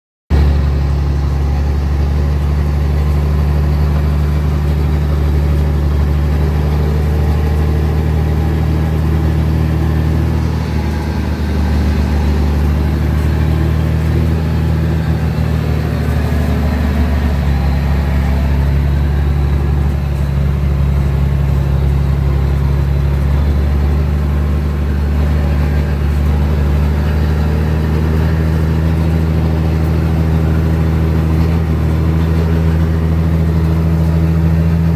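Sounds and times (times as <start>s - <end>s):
truck diesel engine droning: 0.3s - 34.9s.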